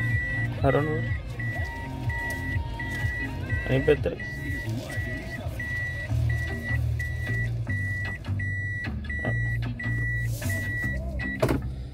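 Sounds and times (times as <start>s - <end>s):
reverse warning buzzer beeping: 0.0s - 11.5s.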